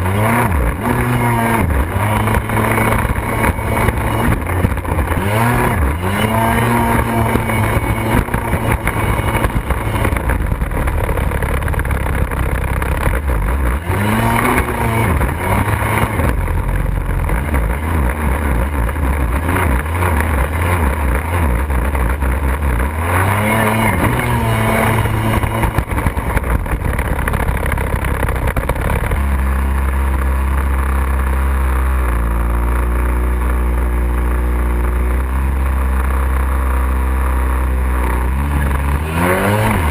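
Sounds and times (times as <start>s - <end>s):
jet ski engine revving: 0.0s - 39.9s.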